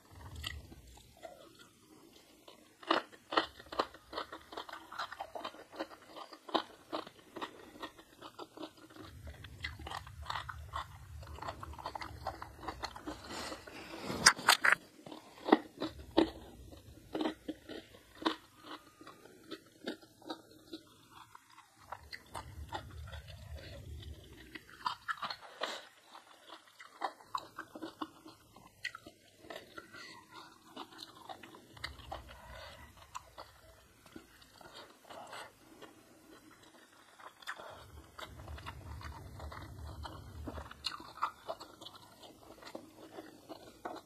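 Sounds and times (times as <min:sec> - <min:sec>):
person chewing crunchy food: 0:00.0 - 0:44.0.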